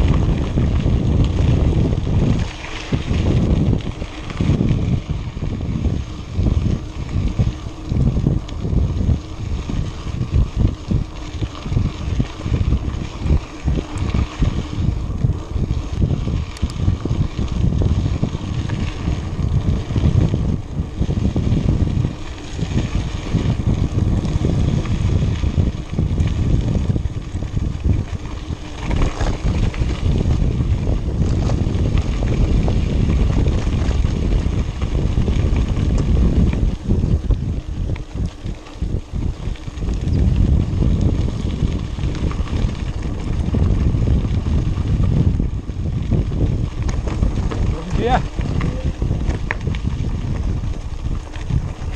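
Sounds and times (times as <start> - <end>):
bike tyres rolling on gravel: 0.0 - 51.9
wind rushing over microphone: 0.0 - 51.9.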